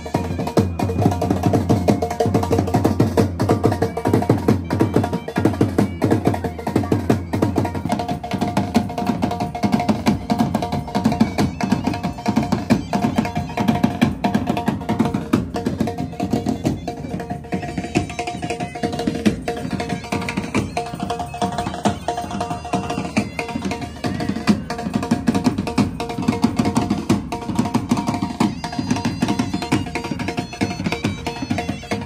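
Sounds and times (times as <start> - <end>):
drums beating fast rhythm: 0.0 - 32.0.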